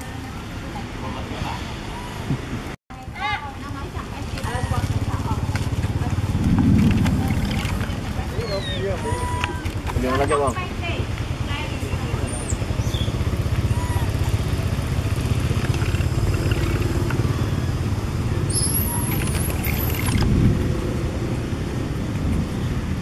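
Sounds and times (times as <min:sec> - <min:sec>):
engine rumble: 0:00.0 - 0:23.0.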